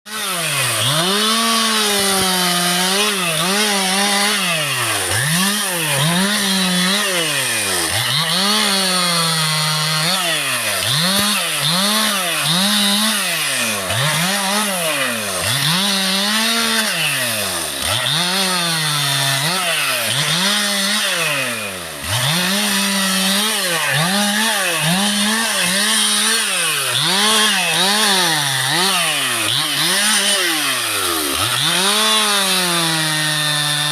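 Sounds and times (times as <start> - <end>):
chainsaw engine revving: 0.0 - 33.9.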